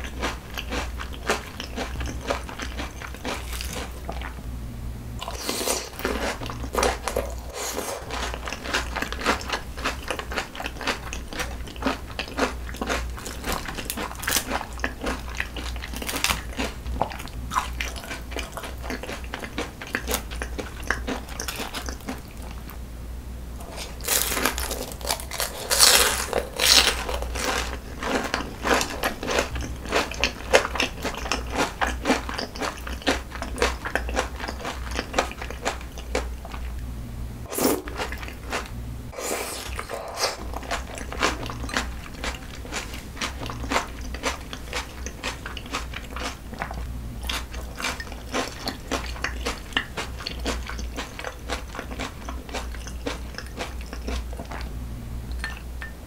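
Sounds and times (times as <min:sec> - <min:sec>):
crunchy food chewing: 0:00.0 - 0:04.4, 0:05.2 - 0:22.8, 0:23.6 - 0:36.8, 0:37.5 - 0:55.6.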